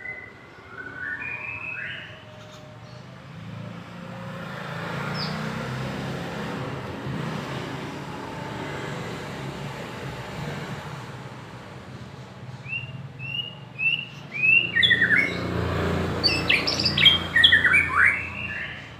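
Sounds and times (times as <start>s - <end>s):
vehicle engine rumbling past: 1.2s - 18.9s.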